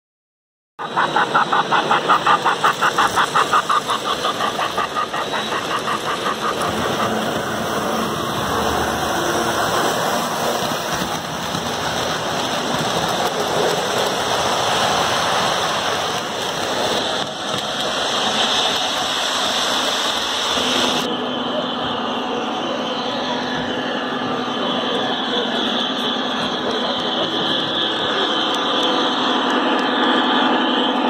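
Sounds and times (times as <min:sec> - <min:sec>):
model trains running on track: 0:00.8 - 0:31.0.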